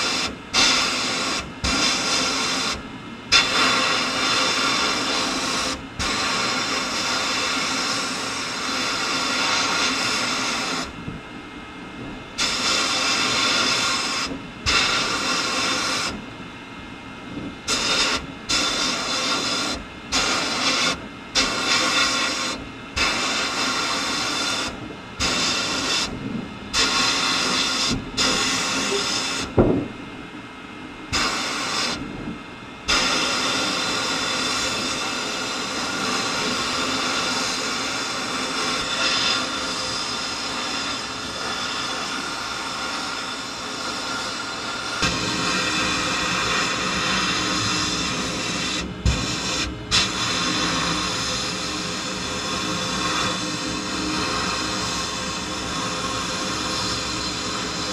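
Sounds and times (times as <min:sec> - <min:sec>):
sandblasting gun hissing: 0:00.0 - 0:11.0, 0:12.4 - 0:16.2, 0:17.7 - 0:29.5, 0:31.1 - 0:32.0, 0:32.9 - 0:57.9.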